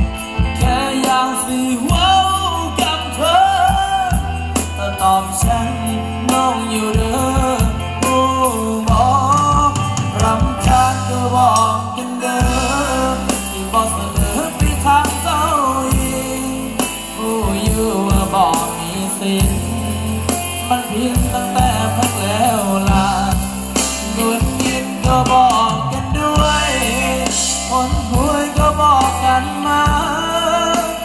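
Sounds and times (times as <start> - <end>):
band with bass and percussion: 0.0 - 31.0
person singing: 0.0 - 31.0.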